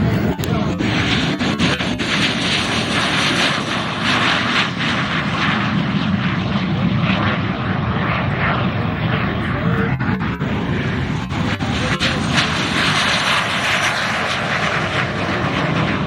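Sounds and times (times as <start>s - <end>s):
jet aircraft roaring past: 0.0s - 16.0s.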